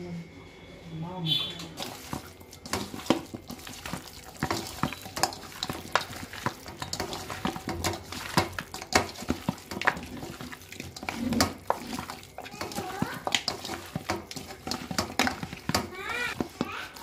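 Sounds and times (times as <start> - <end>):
hand mixing food in metal bowl: 1.4 - 17.0.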